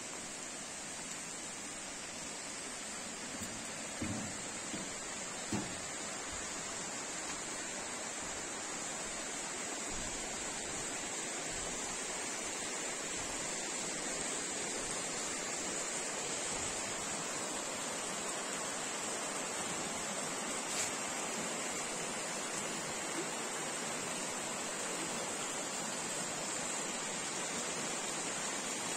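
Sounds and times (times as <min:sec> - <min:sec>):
water rushing: 0:00.0 - 0:28.9.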